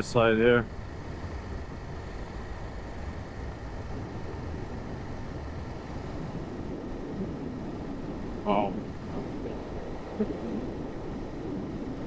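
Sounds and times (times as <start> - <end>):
motorcycle engine rumble: 0.0 - 12.0
wind noise: 0.0 - 12.0.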